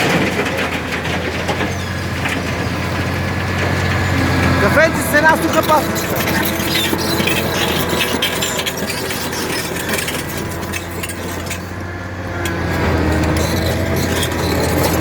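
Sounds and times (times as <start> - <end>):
diesel engine idling: 0.0 - 15.0
light clattering: 0.0 - 15.0.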